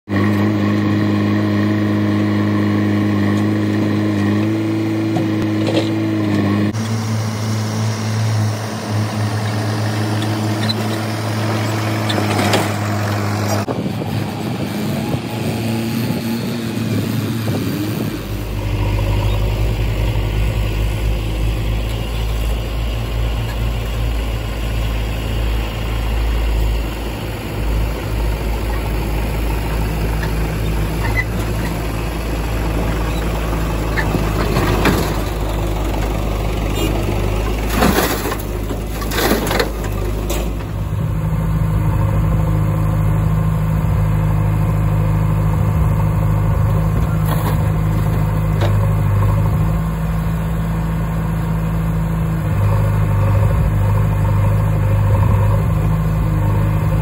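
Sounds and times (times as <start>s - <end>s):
diesel engines running: 0.1s - 57.0s.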